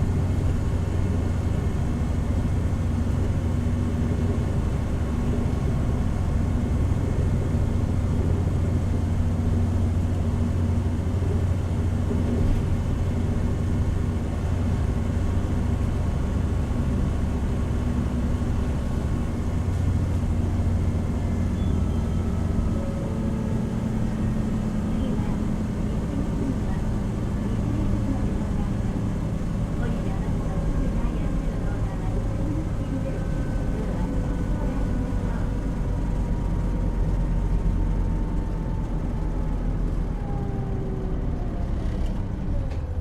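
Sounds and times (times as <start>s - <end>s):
bus diesel engine drone: 0.0s - 43.0s
road noise: 0.0s - 43.0s.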